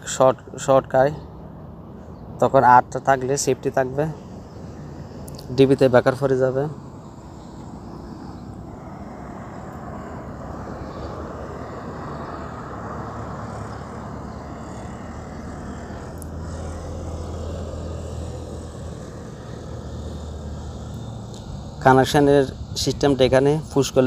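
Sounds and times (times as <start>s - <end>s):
low drone: 0.0s - 24.0s.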